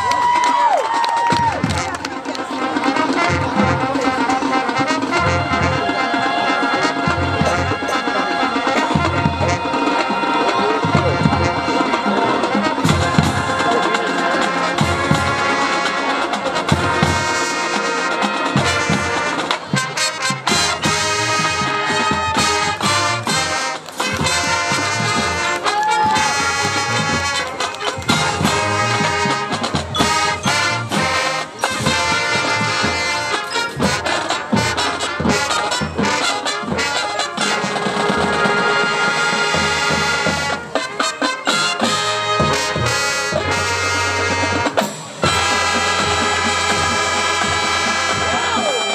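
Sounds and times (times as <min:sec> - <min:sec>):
brass trumpets and trombones: 0:00.0 - 0:48.9
drums: 0:00.0 - 0:48.9
marching band playing: 0:00.0 - 0:48.9.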